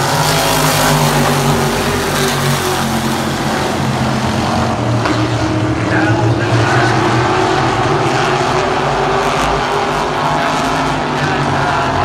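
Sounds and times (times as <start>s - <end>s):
race car engines roaring: 0.0s - 12.0s
race car passing close by: 0.0s - 12.0s.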